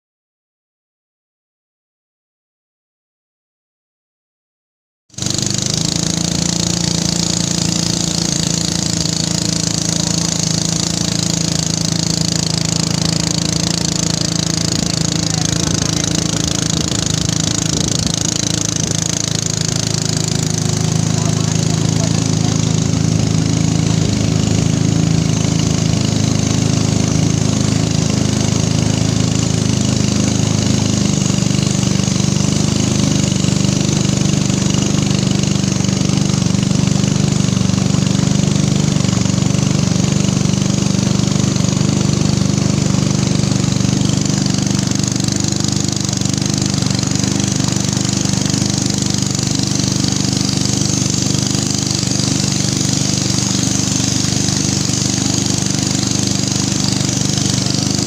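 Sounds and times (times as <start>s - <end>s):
boat engine running: 5.1s - 58.0s.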